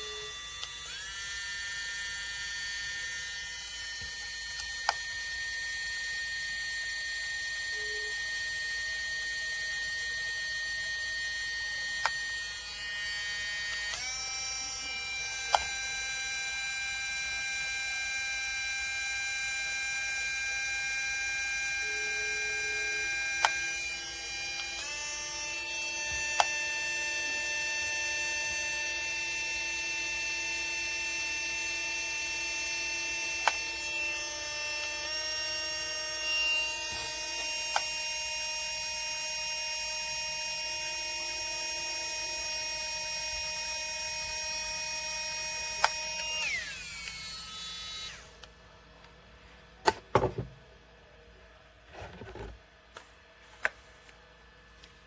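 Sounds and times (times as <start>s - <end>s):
rotary tool motor whining: 0.0s - 48.5s.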